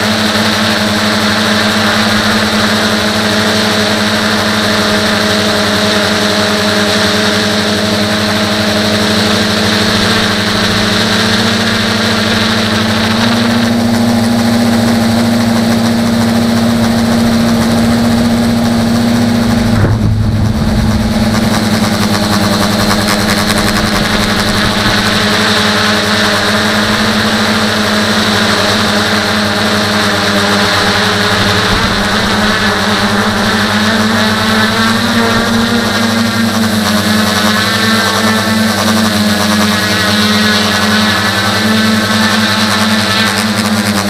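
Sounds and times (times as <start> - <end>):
electric motors and propellers whining: 0.0 - 44.0.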